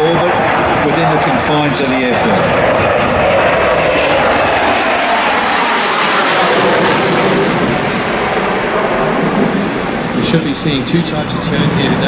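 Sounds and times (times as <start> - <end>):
fighter jet engines roaring: 0.0 - 12.0.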